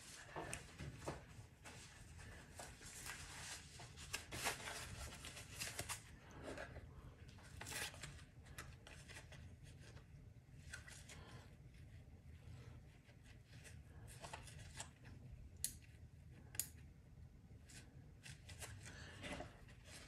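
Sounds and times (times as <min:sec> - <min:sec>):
rustling and scraping plastic parts: 0:00.0 - 0:15.3, 0:17.6 - 0:20.0.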